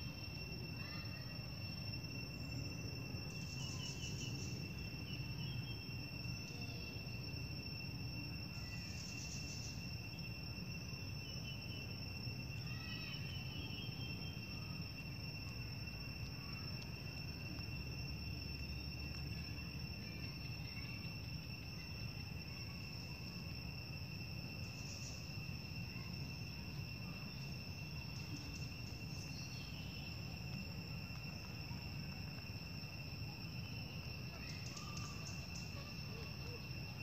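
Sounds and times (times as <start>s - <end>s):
high-pitched insect drone: 0.0s - 37.0s
insect chirps: 0.0s - 37.0s.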